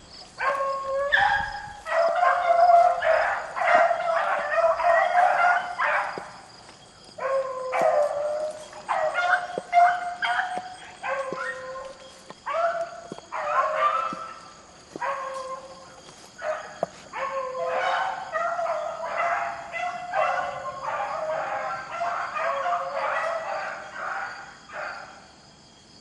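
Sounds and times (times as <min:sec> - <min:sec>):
beagles baying: 0:00.3 - 0:25.3.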